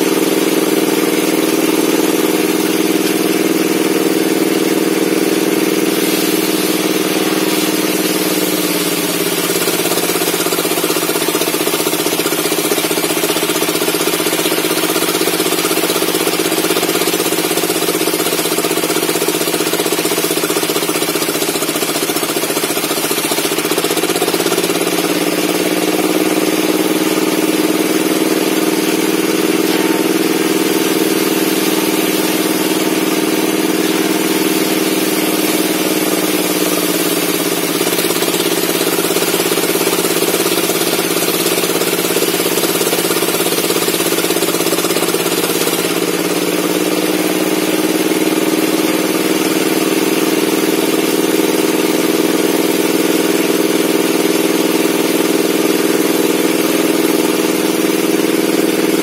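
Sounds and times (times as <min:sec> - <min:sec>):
circular saw humming: 0:00.0 - 0:50.3
saw cutting through wood: 0:00.0 - 0:59.0.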